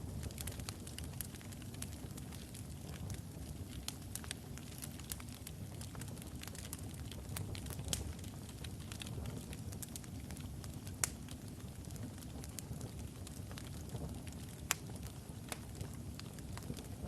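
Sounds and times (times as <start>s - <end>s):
fire crackles and pops: 0.0s - 17.0s
low rumble of fire: 0.0s - 17.0s.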